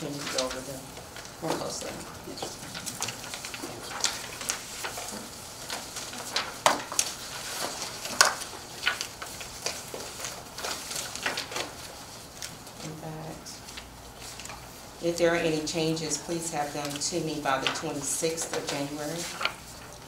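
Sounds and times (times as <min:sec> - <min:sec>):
paper rustling on a table: 0:00.0 - 0:20.0.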